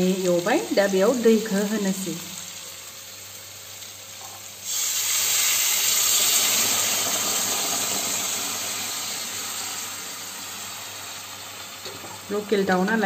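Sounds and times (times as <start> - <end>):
water sizzling in a hot pan: 0.0 - 13.0.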